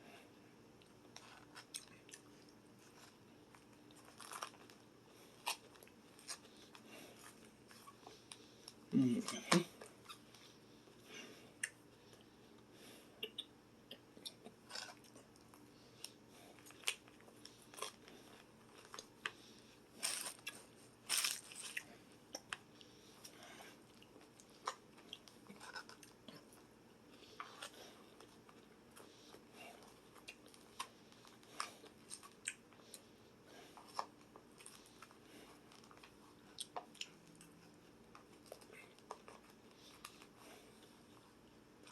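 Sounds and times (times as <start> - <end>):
chewing crunchy vegetables: 0.8 - 41.9.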